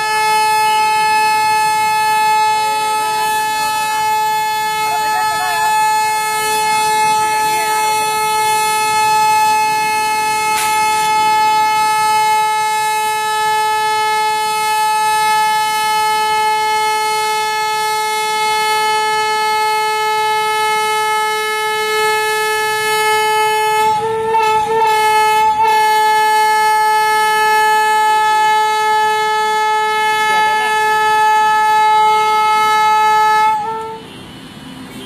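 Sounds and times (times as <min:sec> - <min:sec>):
train horn blast: 0:00.0 - 0:35.0.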